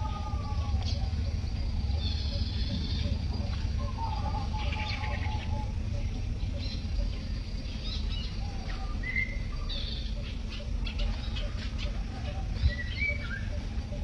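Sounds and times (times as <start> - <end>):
faint bird chirps: 0.0 - 14.0
low rumble: 0.0 - 14.0.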